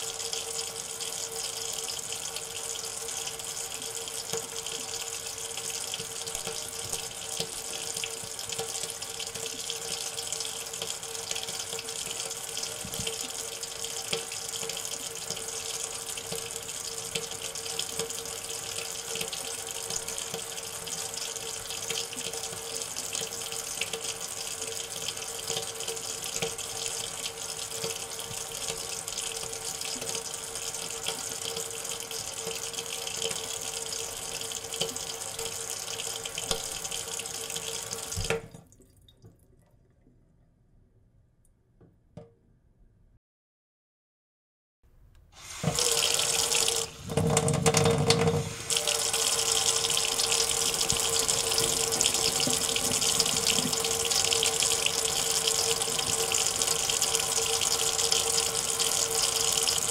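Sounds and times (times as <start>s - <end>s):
tap water splashing into sink: 2.3s - 33.9s, 34.5s - 40.2s, 45.4s - 59.9s.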